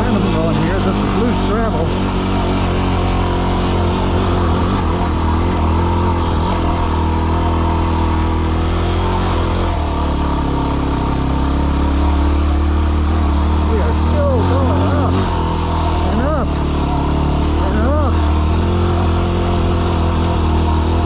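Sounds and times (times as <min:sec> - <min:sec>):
motorcycle engine climbing: 0:00.0 - 0:21.0.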